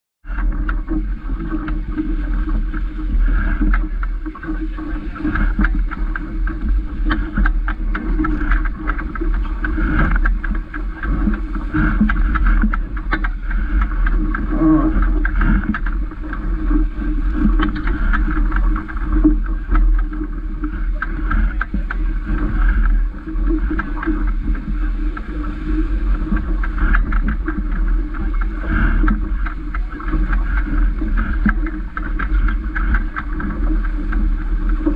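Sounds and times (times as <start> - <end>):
water splashing along boat hull: 0.2 - 34.9
wind buffeting microphone: 0.2 - 34.9.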